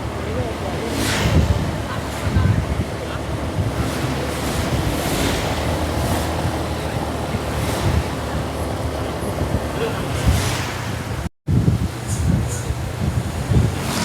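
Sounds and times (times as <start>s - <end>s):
road traffic rumble: 0.0s - 14.0s
wind buffeting microphone: 0.0s - 14.0s.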